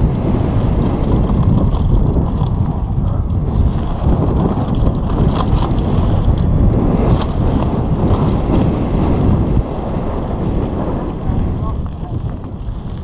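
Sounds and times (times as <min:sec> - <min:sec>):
bike clicks and rattles: 0:00.0 - 0:13.0
bike tyres on gravel: 0:00.0 - 0:13.0
wind buffeting microphone: 0:00.0 - 0:13.0.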